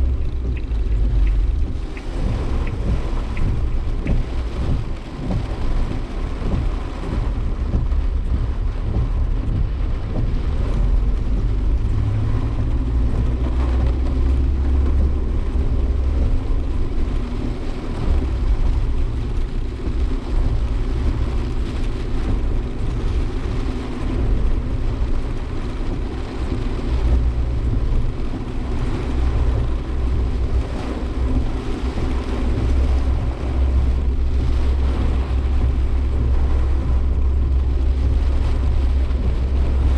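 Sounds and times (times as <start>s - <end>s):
engine and road rumble: 0.0s - 39.9s
tyre and wind noise: 0.0s - 39.9s.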